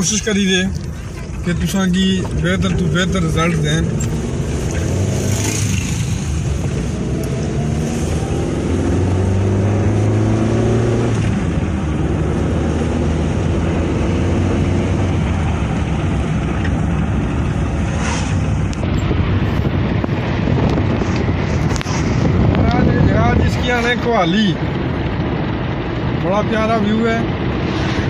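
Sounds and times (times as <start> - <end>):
tyre and wind rushing noise: 1.0 - 26.3, 27.1 - 28.0
car engine revving: 1.0 - 28.0.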